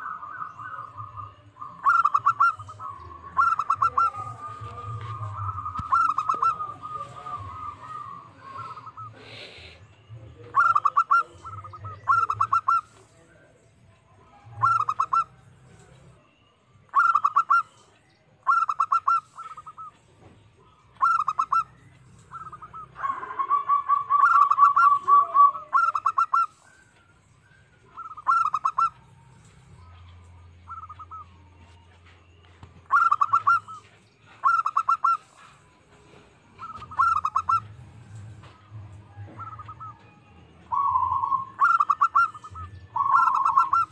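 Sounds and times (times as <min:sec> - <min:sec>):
dove cooing: 0:00.0 - 0:09.6, 0:10.4 - 0:13.0, 0:14.4 - 0:16.2, 0:16.9 - 0:17.7, 0:20.6 - 0:31.4, 0:32.8 - 0:43.9.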